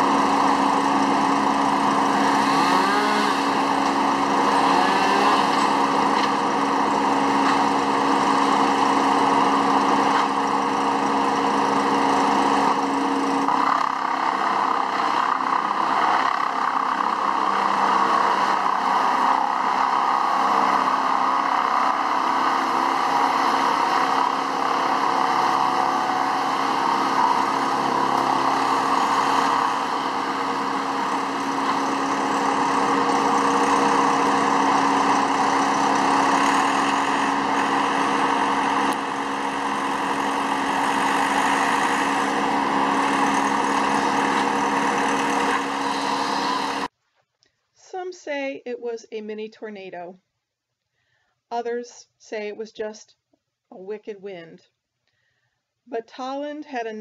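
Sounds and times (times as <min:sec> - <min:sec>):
machine engine droning: 0:00.0 - 0:46.9.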